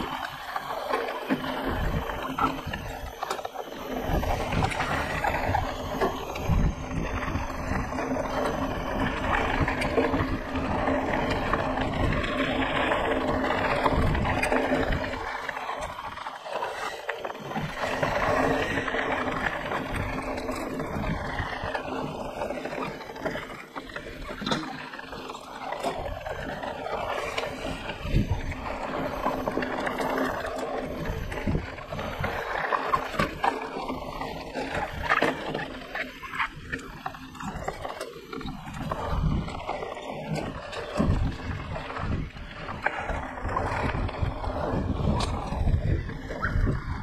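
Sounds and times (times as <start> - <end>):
mountain bike tyres on dirt: 0.0 - 47.0.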